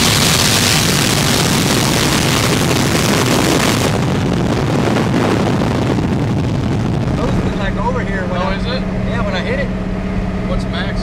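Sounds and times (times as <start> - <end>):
wind rushing over microphone: 0.0 - 10.6.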